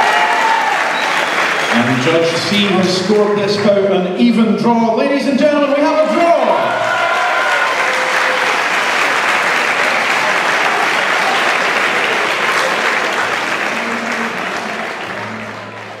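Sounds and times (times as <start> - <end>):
audience applauding: 0.0 - 3.8, 5.7 - 16.0.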